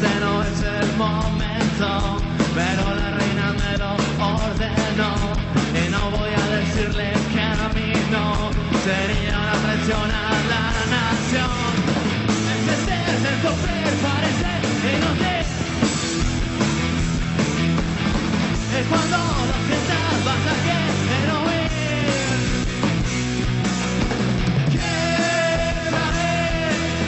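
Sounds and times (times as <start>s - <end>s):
person singing into a microphone: 0.0s - 15.7s, 18.7s - 22.6s, 24.7s - 27.0s
bass guitar: 0.0s - 27.0s
drums with a steady beat: 0.0s - 27.0s
electric guitar: 0.0s - 27.0s.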